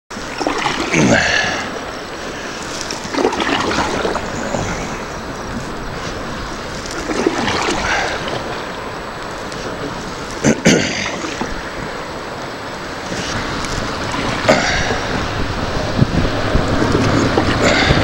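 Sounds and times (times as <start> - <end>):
water moving around canoe: 0.1 - 18.0
wind on microphone: 0.1 - 18.0.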